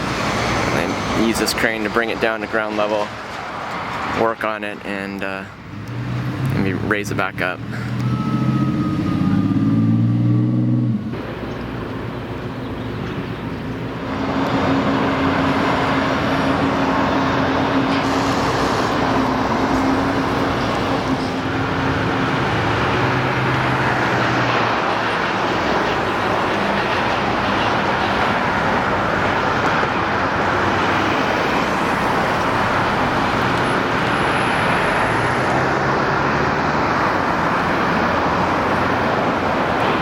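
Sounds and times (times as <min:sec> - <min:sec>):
engine and tyre noise rushing: 0:00.0 - 0:40.0
low engine hum: 0:04.8 - 0:40.0.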